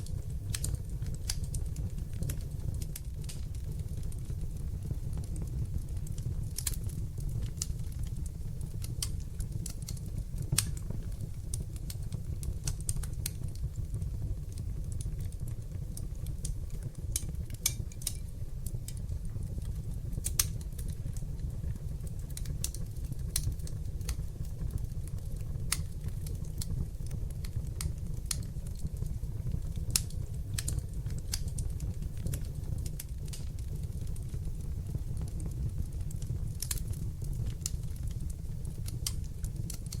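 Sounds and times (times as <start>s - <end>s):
fire crackling in fireplace: 0.0s - 40.0s.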